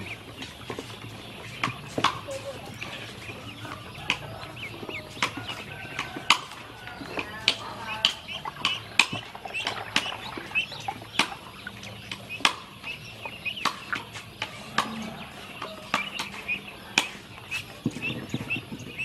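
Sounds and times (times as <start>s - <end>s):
ducklings peeping: 0.0s - 19.0s.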